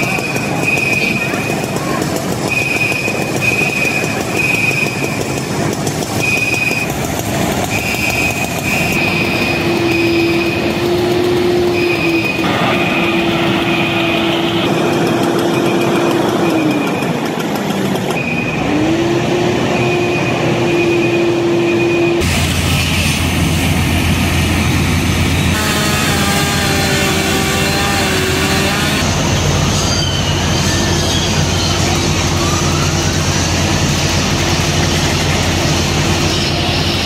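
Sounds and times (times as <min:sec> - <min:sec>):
fire engine pump and motor: 0:00.0 - 0:37.0.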